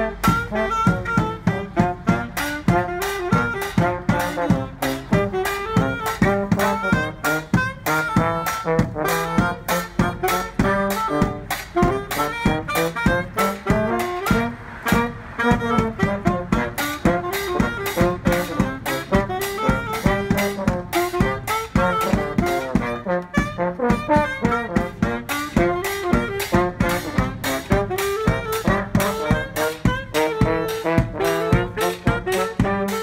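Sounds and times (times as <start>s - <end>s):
bass drum beat: 0.0s - 33.0s
low brass horn: 0.0s - 33.0s
saxophone: 0.0s - 33.0s.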